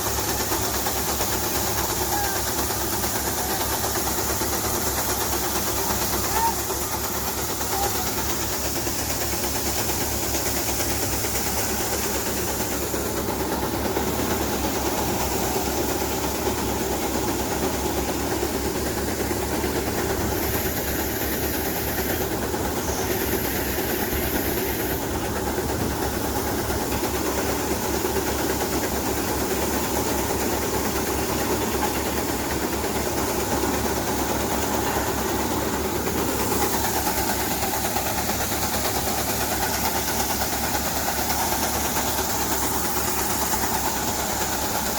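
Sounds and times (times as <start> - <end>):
engine low throb: 0.0 - 44.9
maize sheller clattering hiss: 0.0 - 44.9.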